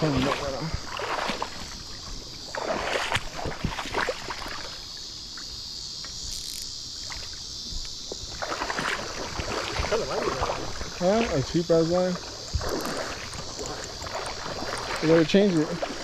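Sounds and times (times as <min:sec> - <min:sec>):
water splashing and sloshing: 0:00.0 - 0:05.6, 0:07.0 - 0:16.0
high insect buzz: 0:00.0 - 0:16.0.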